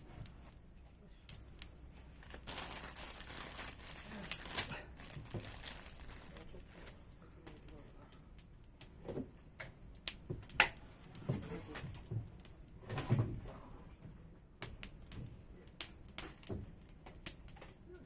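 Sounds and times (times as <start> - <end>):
campfire crackling and popping: 0.0 - 12.9, 13.9 - 18.0.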